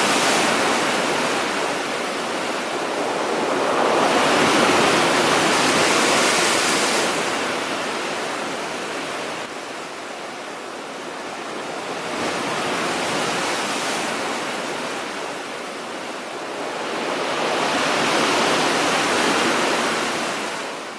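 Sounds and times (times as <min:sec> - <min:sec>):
waves breaking on shore: 0:00.0 - 0:20.9.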